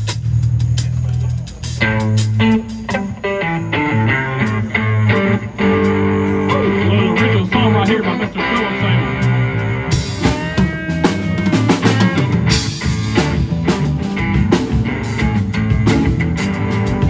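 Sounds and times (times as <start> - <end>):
bass and electric guitar: 0.0 - 17.0
drum kit: 0.0 - 17.0.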